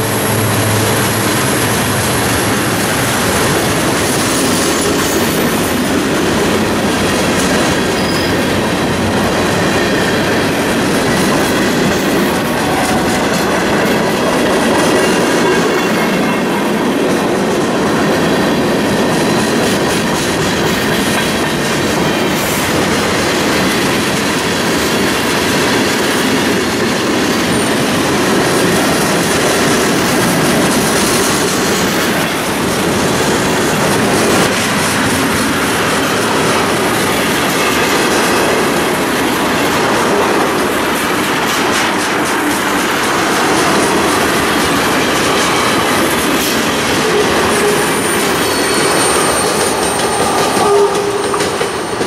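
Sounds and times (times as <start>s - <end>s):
train wheels rumbling and clacking: 0.0s - 52.0s.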